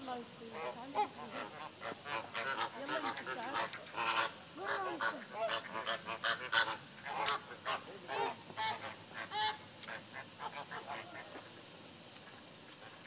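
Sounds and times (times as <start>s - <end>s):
flamingos honking: 0.5s - 11.4s.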